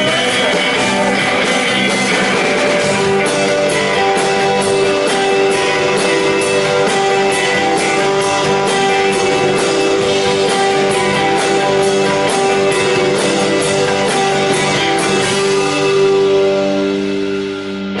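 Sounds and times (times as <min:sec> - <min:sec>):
live rock band music: 0:00.0 - 0:18.0.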